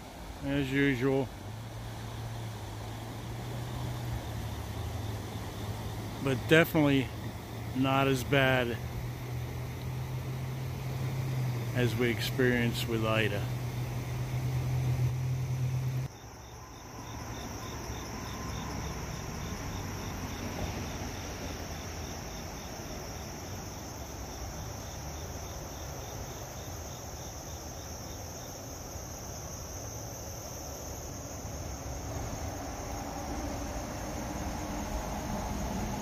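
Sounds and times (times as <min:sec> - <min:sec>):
creek rushing: 0:00.0 - 0:16.1, 0:16.8 - 0:36.0
crickets chirping: 0:00.0 - 0:36.0
high insect trill: 0:00.0 - 0:36.0.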